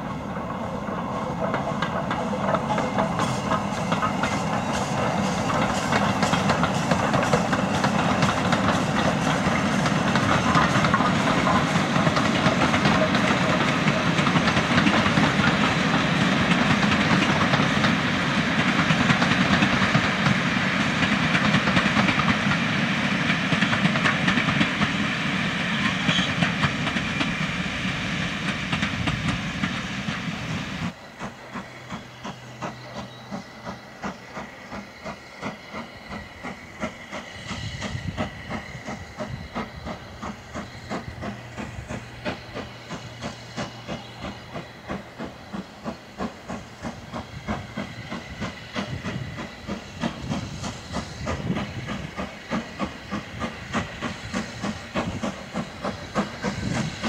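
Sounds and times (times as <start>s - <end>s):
steam locomotive chuffing: 0.0s - 57.0s
train rumble: 0.0s - 57.0s.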